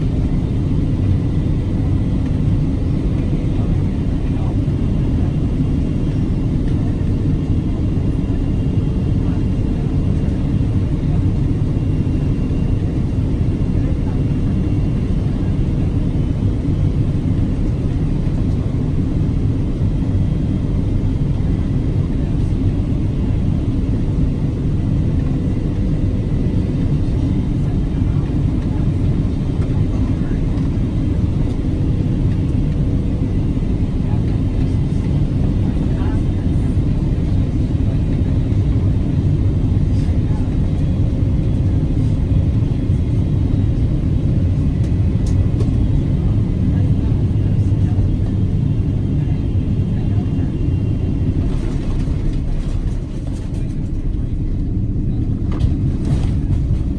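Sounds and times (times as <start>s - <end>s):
airplane engines and airflow rumble: 0.0s - 56.9s.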